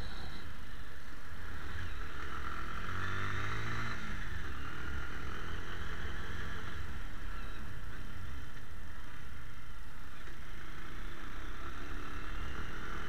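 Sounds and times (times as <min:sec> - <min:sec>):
motorcycle engine rumble: 0:00.0 - 0:13.0
wind and road noise: 0:00.0 - 0:13.0.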